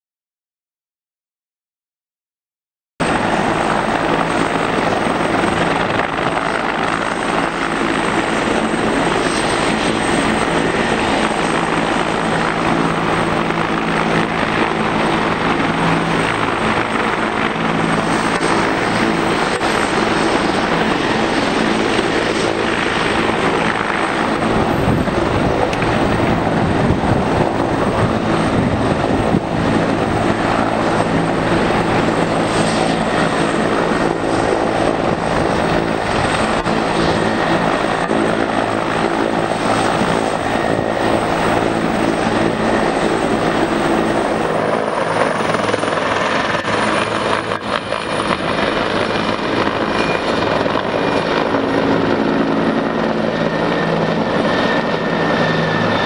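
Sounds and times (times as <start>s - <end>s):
helicopter turbine and rotor noise: 3.0s - 56.0s
low rapid pulsing: 3.0s - 56.0s.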